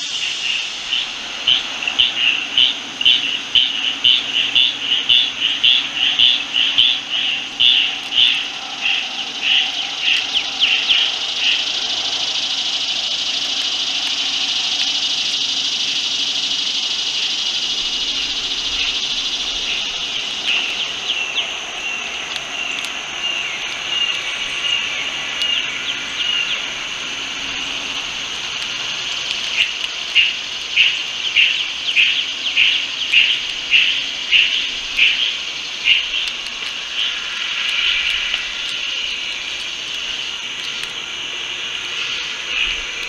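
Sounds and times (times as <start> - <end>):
insect high buzz: 0.0 - 43.0
insect pulsed call: 0.0 - 43.0.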